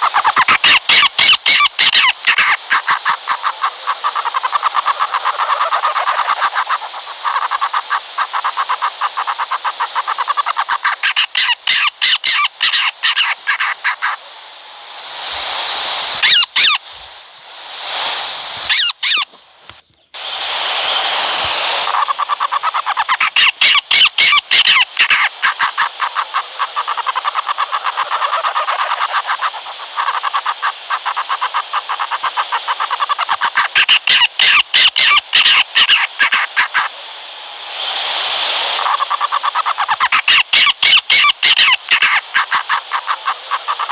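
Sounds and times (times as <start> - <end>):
owl rattling calls: 0.0 - 14.2, 15.1 - 16.9, 17.7 - 36.9, 38.8 - 43.9
owl hissing screeches: 0.0 - 37.0, 37.6 - 43.9.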